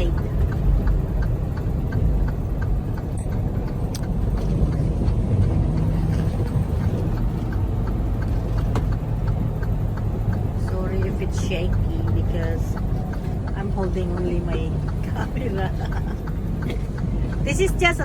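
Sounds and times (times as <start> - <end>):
light ticks and rattles: 0.0 - 18.0
truck engine rumble: 0.0 - 18.0.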